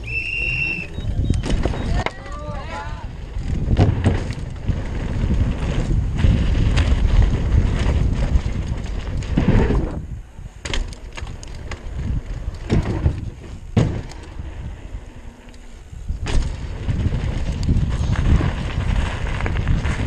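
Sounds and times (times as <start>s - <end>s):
bike tyres rolling on dirt: 0.0s - 20.0s
wind rushing over microphone: 0.0s - 20.0s
bike knocks and clatters: 1.2s - 10.0s, 10.6s - 14.4s, 16.1s - 20.0s.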